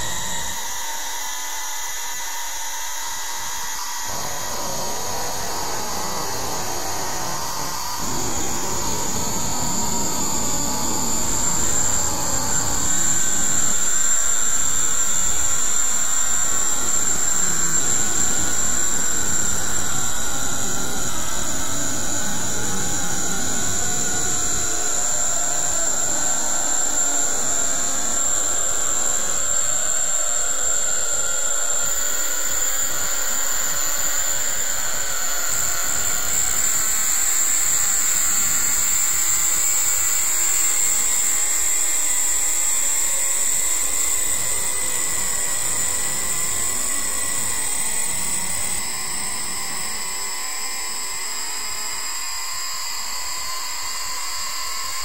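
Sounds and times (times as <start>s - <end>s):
loud rushing with high whine: 0.0s - 1.9s, 3.0s - 53.3s.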